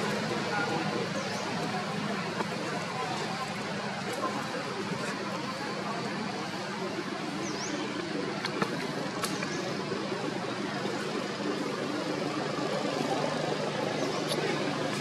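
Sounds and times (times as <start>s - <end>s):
low hum of distant traffic: 0.0s - 15.0s.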